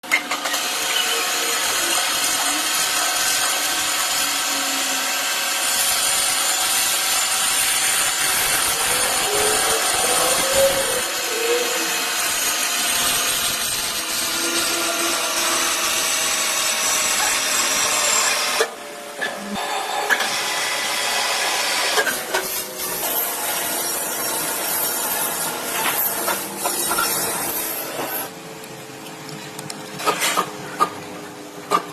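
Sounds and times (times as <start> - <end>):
cnc machine cutting metal: 0.0 - 28.3.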